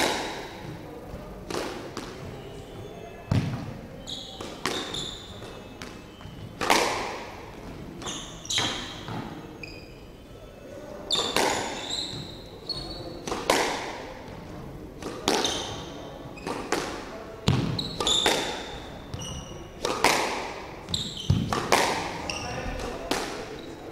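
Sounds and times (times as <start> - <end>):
squash ball hits echoing: 0.0 - 9.5, 11.1 - 23.6
shoes squeaking on wooden floor: 0.0 - 10.3, 11.1 - 13.4, 15.2 - 16.8, 17.5 - 20.1, 20.8 - 23.9.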